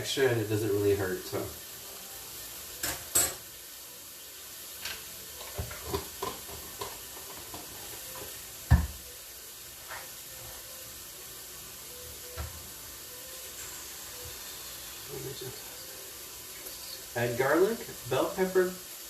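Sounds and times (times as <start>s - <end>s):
onions sizzling in a saucepan: 0.0s - 19.0s.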